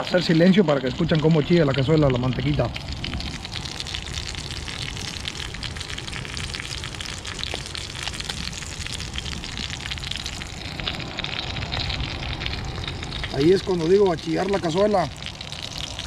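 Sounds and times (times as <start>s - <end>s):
meat sizzling in lard: 0.0s - 16.0s.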